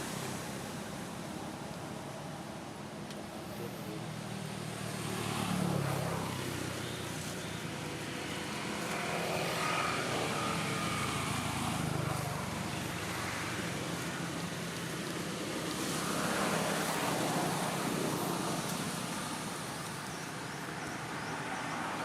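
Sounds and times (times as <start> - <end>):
steady outdoor hiss: 0.0 - 22.0
vehicles passing: 0.0 - 22.0.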